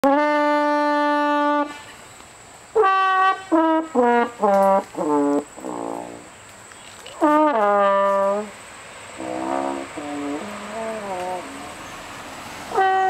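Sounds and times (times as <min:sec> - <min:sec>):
brass horn notes: 0:00.0 - 0:02.0, 0:02.8 - 0:06.3, 0:07.1 - 0:08.6, 0:09.2 - 0:13.0.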